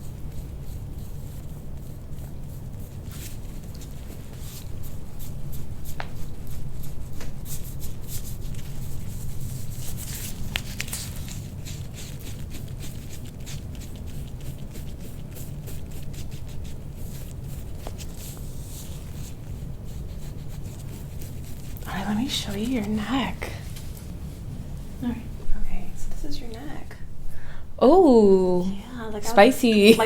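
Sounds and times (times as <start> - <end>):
hands rubbing skin and clothing: 0.0 - 25.3.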